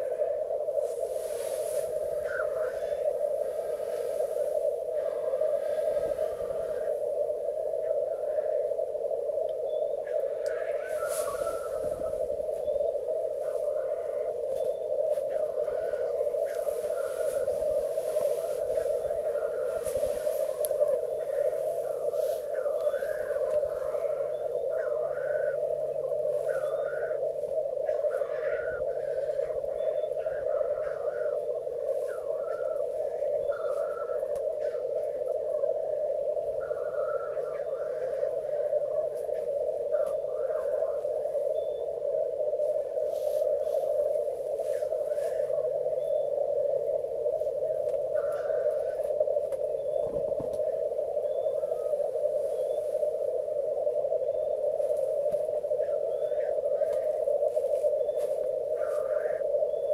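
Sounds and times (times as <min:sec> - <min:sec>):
grouse bubbling cooing chorus: 0:00.0 - 0:59.9
grouse hoarse hiss call: 0:00.0 - 0:59.9.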